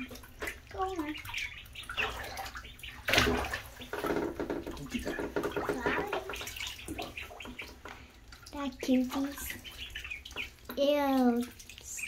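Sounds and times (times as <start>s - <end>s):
ducklings splashing in water: 0.0s - 12.0s.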